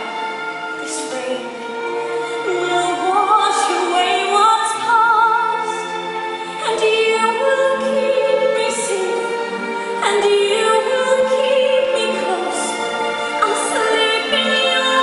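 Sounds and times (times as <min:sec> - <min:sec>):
orchestral accompaniment: 0:00.0 - 0:15.0.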